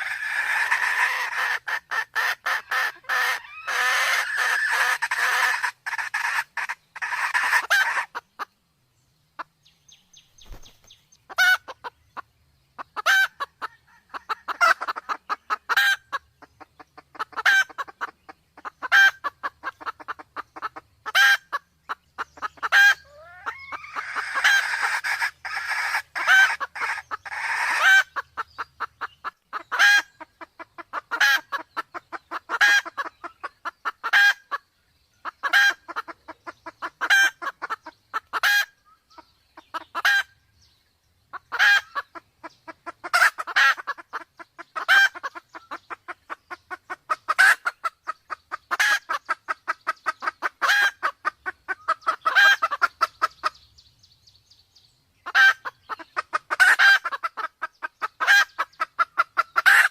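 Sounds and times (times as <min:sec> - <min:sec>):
junglefowl cackling clucks: 0:00.0 - 0:08.6, 0:10.4 - 0:40.7, 0:41.3 - 0:53.8, 0:55.2 - 0:59.9.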